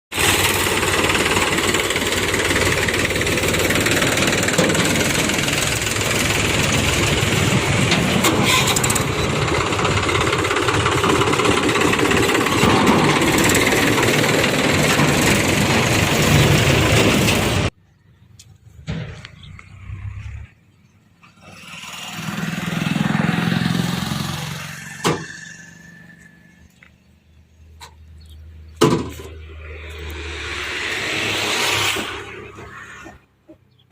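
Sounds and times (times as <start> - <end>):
backhoe loader diesel engine: 0.1 - 33.9
tractor diesel engine: 0.1 - 33.9.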